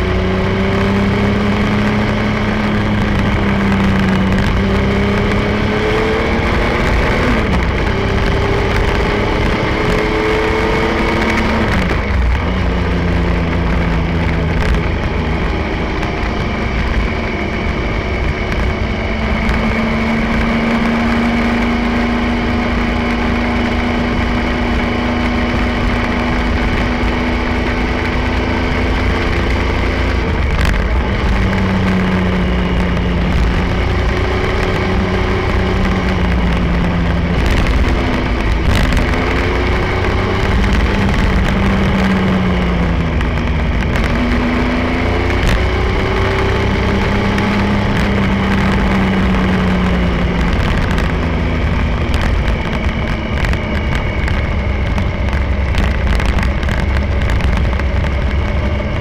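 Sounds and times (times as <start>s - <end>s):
motorcycle engine running: 0.0s - 59.0s
wind rumble: 0.0s - 59.0s.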